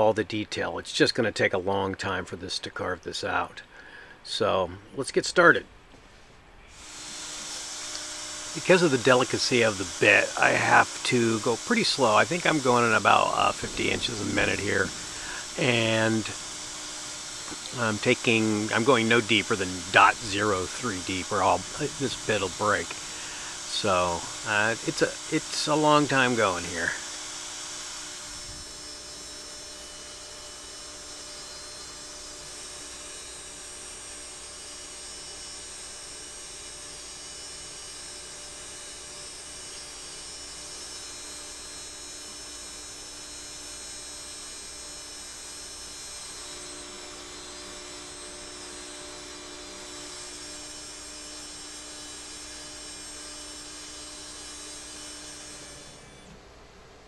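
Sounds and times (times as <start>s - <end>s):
router spindle whine: 6.7s - 57.0s.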